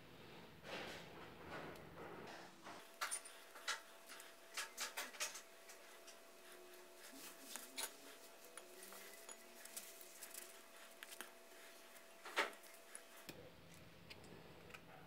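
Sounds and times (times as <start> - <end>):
knife peeling and cutting fruit: 2.8 - 15.0.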